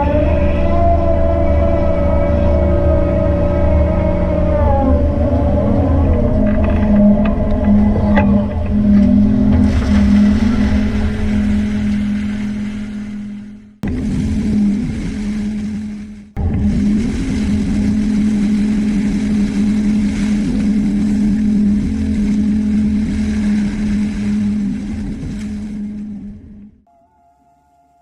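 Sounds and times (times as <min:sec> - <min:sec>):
mulching head and excavator engine: 0:00.0 - 0:26.8.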